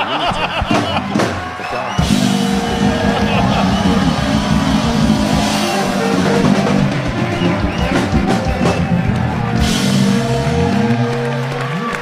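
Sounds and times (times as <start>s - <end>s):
music with drum beat: 0.4s - 10.9s.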